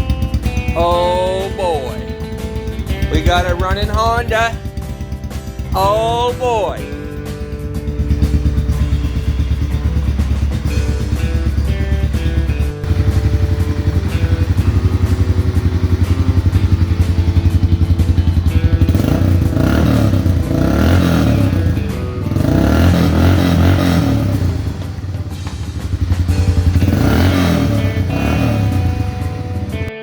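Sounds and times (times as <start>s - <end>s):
background music: 0.0s - 30.0s
quad bike engine idling and revving: 0.0s - 30.0s.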